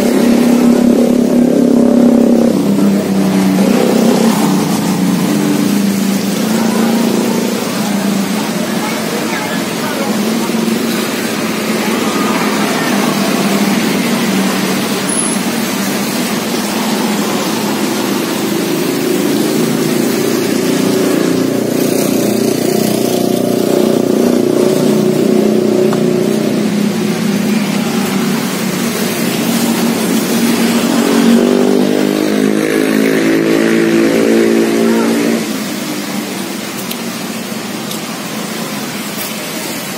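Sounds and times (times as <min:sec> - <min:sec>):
engine revving: 0:00.0 - 0:37.3
road traffic passing: 0:00.0 - 0:39.9.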